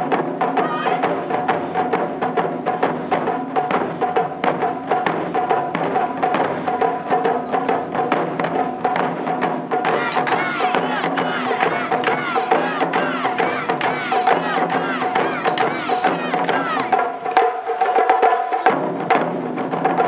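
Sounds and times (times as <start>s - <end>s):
taiko drums: 0.0s - 20.0s.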